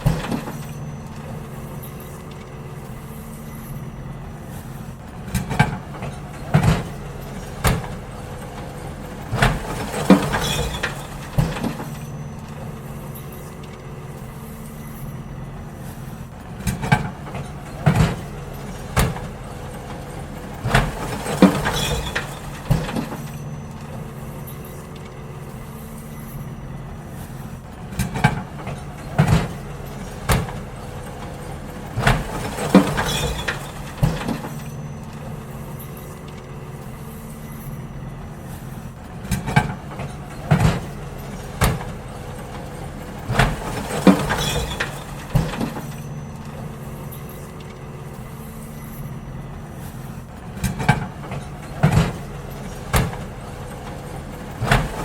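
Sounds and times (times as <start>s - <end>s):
bins banging and clanking: 0.0s - 55.0s
garbage truck running: 0.0s - 55.0s.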